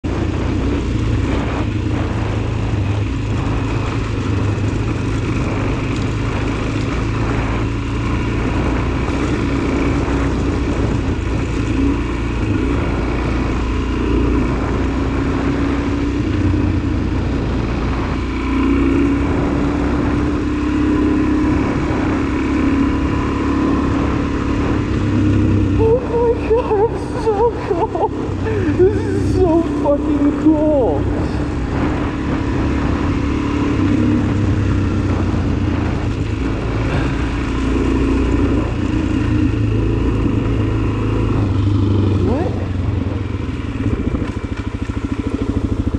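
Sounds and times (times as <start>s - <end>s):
motorcycle engine running: 0.0s - 45.9s
tyres on gravel road: 0.0s - 45.9s
wind rush: 0.0s - 45.9s.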